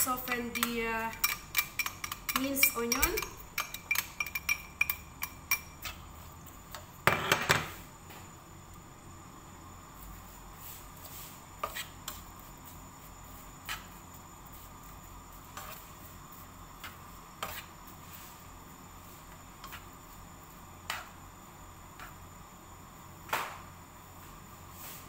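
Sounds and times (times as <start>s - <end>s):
onion stirred in oil: 0.0s - 7.0s, 9.8s - 23.2s.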